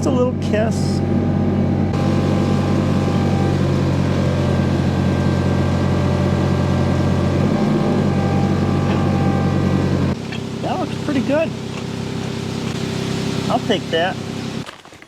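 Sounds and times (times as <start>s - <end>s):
tractor engine running: 0.0s - 14.7s.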